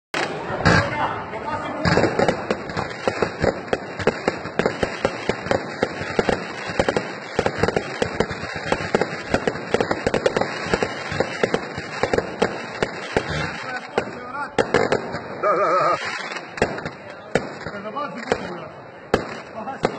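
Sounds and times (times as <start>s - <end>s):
fireworks bursting: 0.2s - 19.9s
fireworks crackling: 0.2s - 19.9s.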